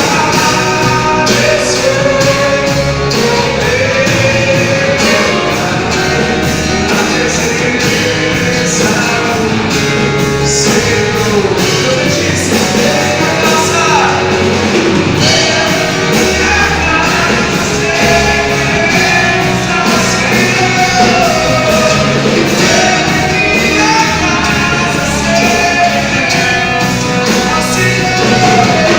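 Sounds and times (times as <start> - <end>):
live gospel band playing: 0.0 - 28.9
person singing: 0.0 - 28.9.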